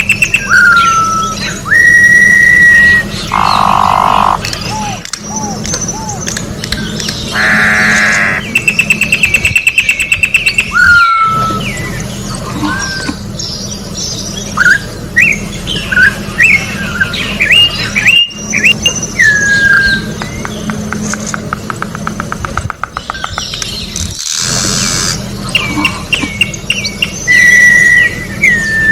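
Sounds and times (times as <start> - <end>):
bird singing: 0.0 - 22.2, 22.8 - 28.9.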